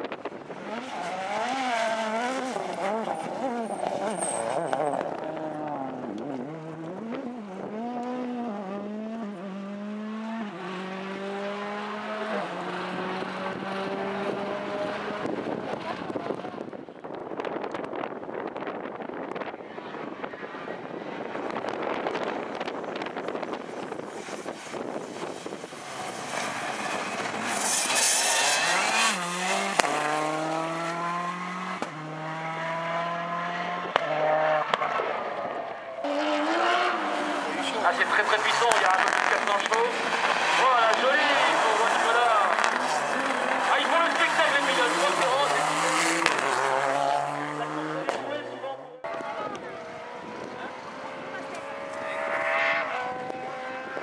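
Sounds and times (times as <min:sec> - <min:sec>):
rally car engine revving with upshifts: 0:00.0 - 0:16.8, 0:20.8 - 0:54.0
tyre and road noise: 0:00.0 - 0:54.0.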